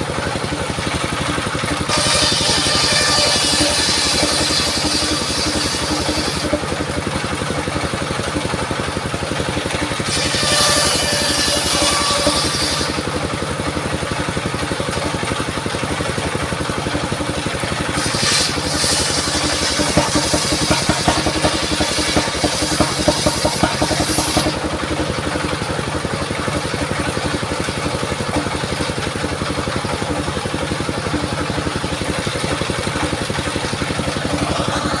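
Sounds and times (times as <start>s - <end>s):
portable sawmill engine running: 0.0s - 35.0s
saw blade cutting through log: 0.8s - 35.0s.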